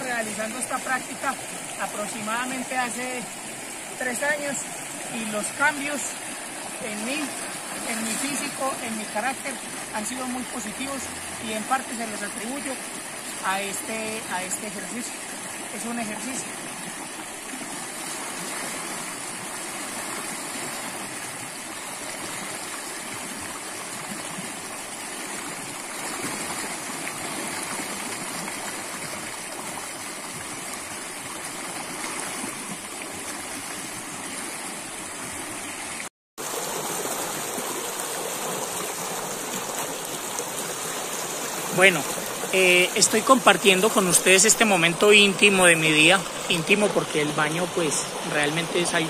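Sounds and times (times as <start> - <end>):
stream running over rocks: 0.0 - 49.0.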